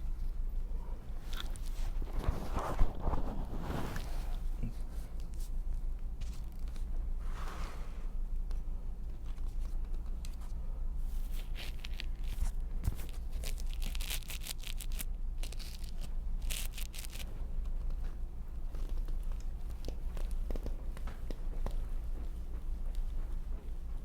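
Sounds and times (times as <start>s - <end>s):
crinkling and rustling: 0.0s - 7.0s, 9.1s - 24.0s
low steady hum: 0.0s - 24.0s.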